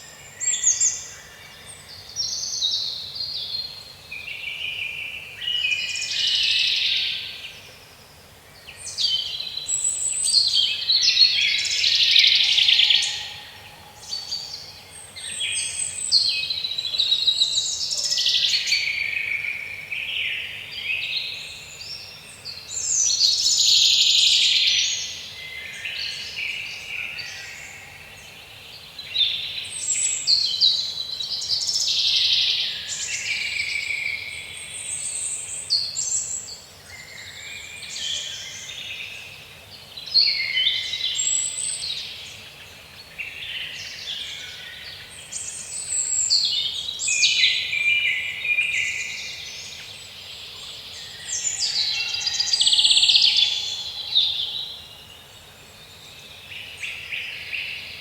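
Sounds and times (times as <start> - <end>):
faint background hiss: 0.0 - 58.0
songbirds singing: 0.0 - 58.0.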